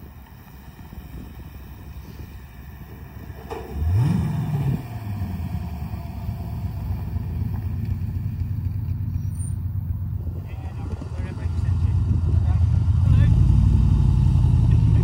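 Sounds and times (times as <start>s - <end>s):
car engine revving: 1.9s - 15.0s.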